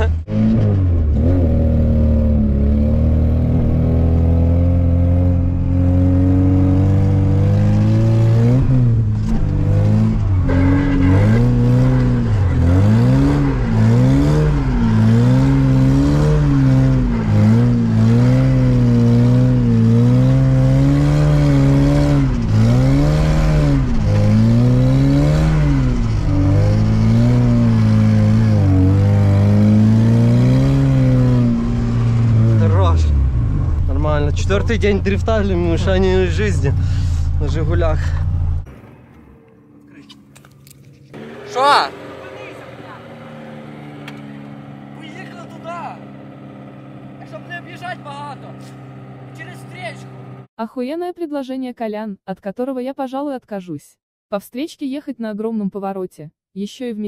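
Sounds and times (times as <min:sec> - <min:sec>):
car engine revving: 0:00.0 - 0:50.5.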